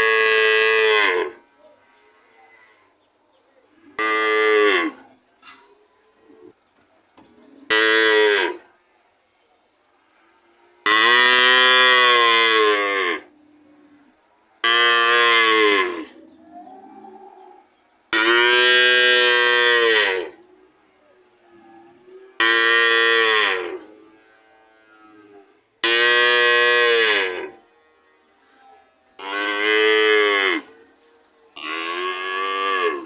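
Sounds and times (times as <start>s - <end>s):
cow mooing: 0.0s - 3.0s, 3.8s - 6.6s, 7.7s - 8.7s, 10.2s - 20.5s, 21.2s - 33.0s.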